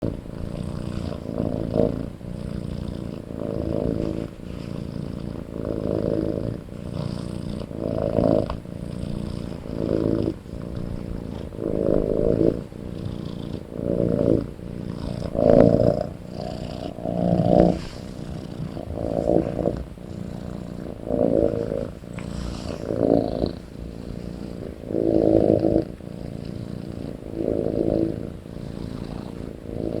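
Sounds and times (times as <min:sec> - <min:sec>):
continuous low rumble: 0:00.0 - 0:30.0
kitten snoring: 0:00.0 - 0:30.0.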